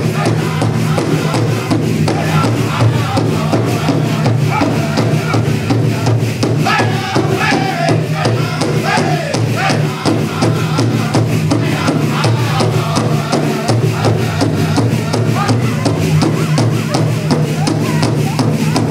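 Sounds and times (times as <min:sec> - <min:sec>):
big drum steady beat: 0:00.0 - 0:18.9.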